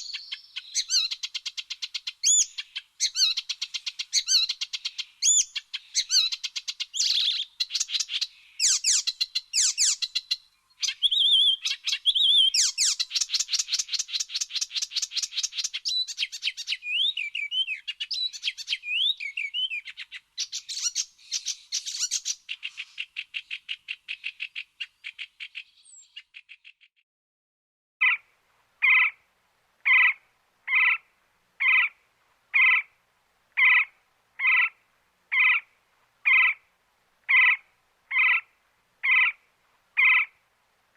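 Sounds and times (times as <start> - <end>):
songbirds singing: 0.0 - 26.9, 28.0 - 29.2, 29.8 - 40.4.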